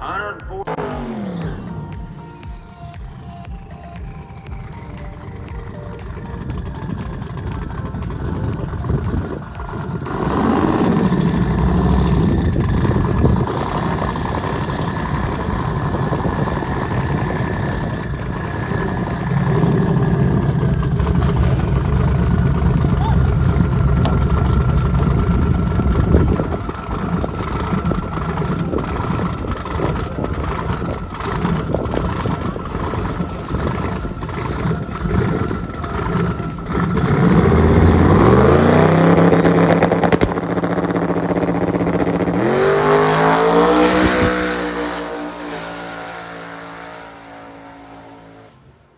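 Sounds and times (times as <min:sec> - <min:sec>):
car engines idling and revving: 0:00.0 - 0:48.9
steady whine: 0:00.0 - 0:48.9.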